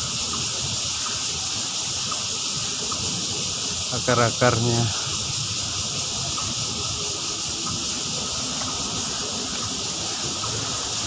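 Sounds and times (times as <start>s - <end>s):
cicadas chorus: 0.0s - 11.0s.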